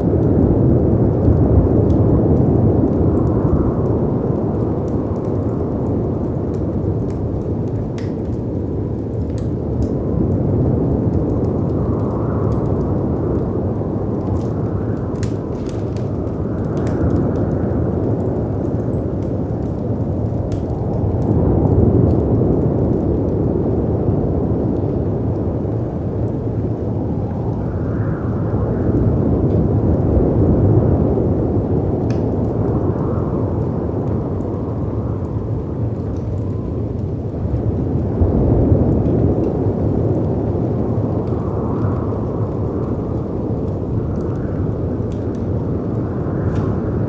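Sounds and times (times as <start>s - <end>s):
fireplace crackles: 0.0s - 47.0s
wind rumbling: 0.0s - 47.0s.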